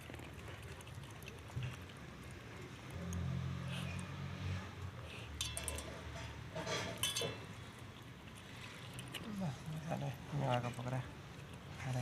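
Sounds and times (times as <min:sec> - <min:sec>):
dog chewing fruit crunchily: 0:00.0 - 0:05.3, 0:07.2 - 0:12.0.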